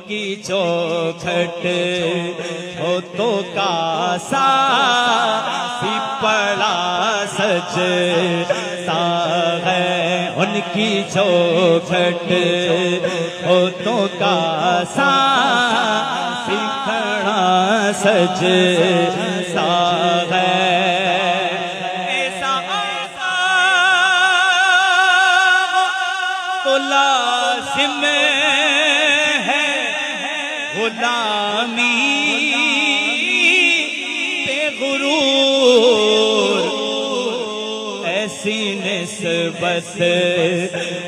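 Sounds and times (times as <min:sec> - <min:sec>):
low vocal drone: 0:00.0 - 0:25.9, 0:26.6 - 0:41.0
person singing through microphone: 0:00.0 - 0:41.0.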